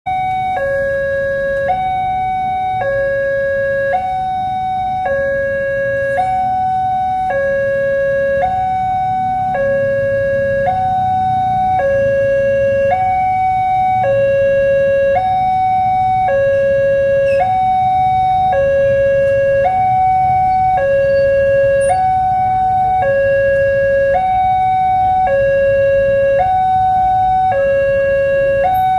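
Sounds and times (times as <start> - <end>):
level crossing siren hi-lo: 0.1 - 28.9.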